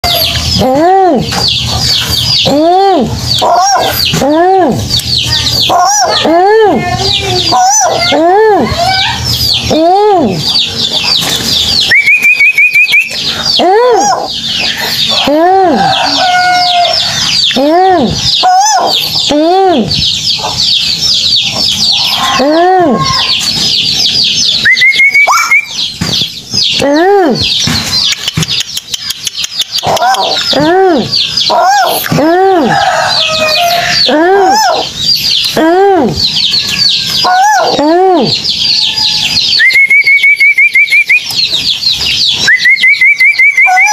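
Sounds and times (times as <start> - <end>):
high chirps chatter: 0.0 - 43.9.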